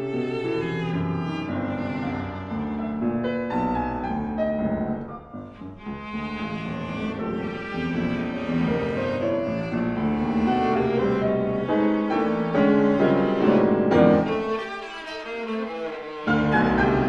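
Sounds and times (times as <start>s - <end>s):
piano accompaniment: 0.0s - 17.0s
viola melody: 0.0s - 17.0s.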